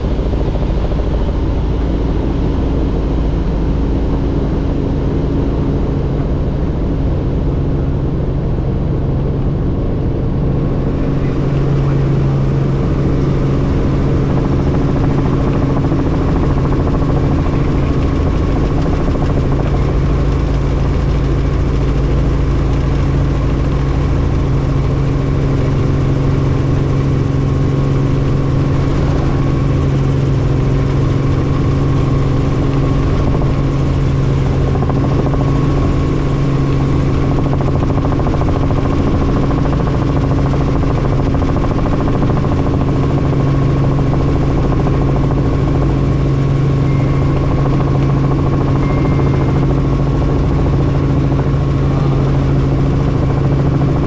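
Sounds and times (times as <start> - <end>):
helicopter rotor and turbine drone: 0.0 - 54.0.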